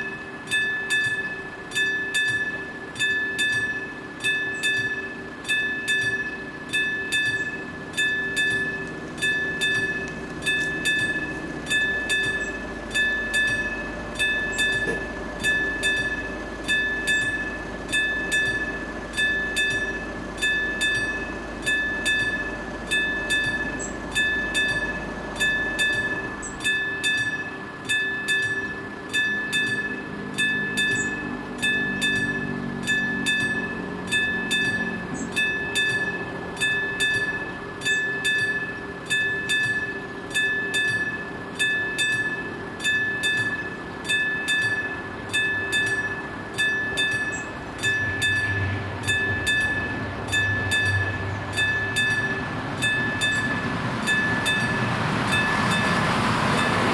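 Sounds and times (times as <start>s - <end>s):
level crossing warning bell ringing: 0.0s - 56.9s.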